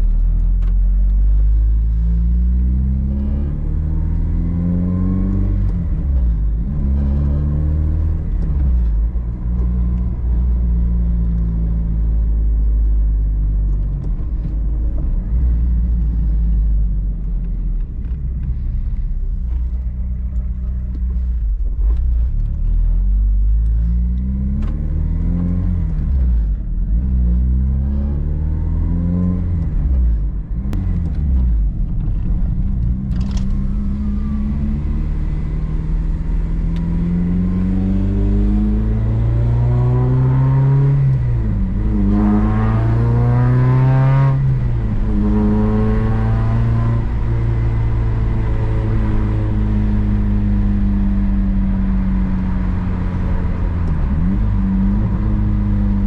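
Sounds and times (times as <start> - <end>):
car engine shifting gears: 0.0 - 56.0.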